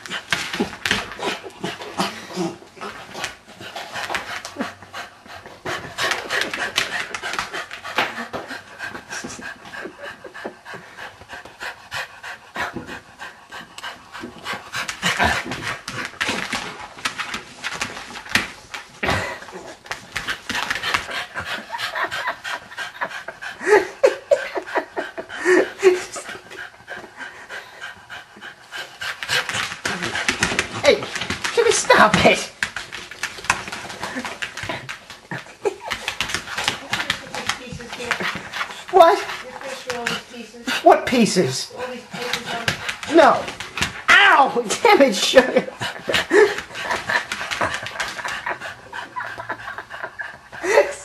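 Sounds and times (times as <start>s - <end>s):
dog panting: 0.0s - 51.0s.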